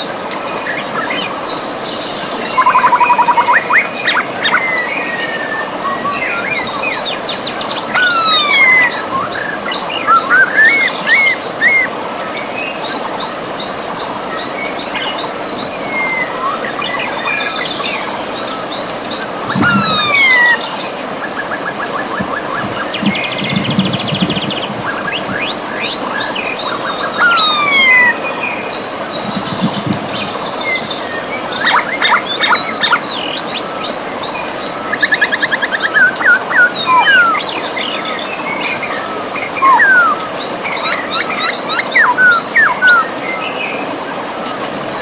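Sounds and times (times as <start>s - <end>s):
birds singing: 0.0s - 45.0s
river water rushing: 0.0s - 45.0s.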